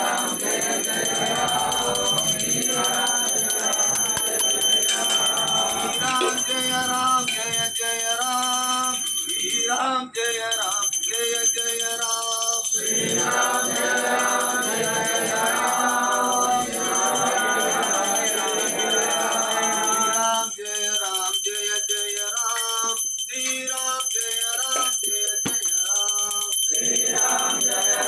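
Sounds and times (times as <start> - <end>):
men chanting a prayer in unison: 0.0 - 28.0.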